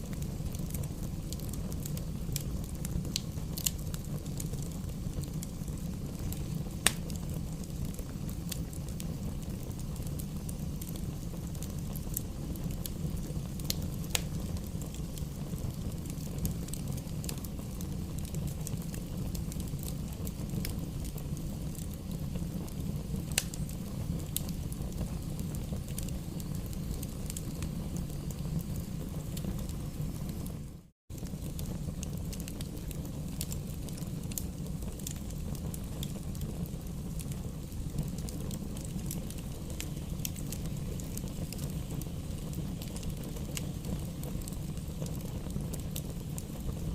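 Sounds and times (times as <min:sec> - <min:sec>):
crackles and pops of burning logs: 0:00.0 - 0:46.9
low rumble of flames: 0:00.0 - 0:46.9.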